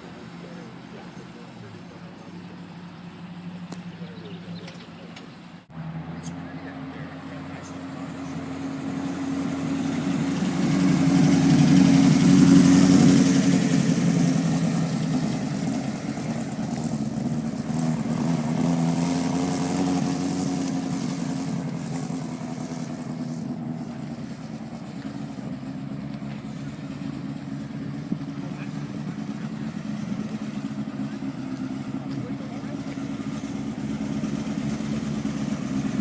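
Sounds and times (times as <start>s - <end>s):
car engines passing slowly: 0.0s - 36.0s.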